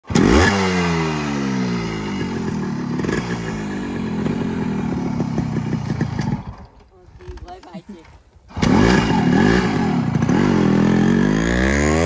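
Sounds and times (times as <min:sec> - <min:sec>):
two-stroke engine revving and idling: 0:00.0 - 0:06.7, 0:08.5 - 0:12.0.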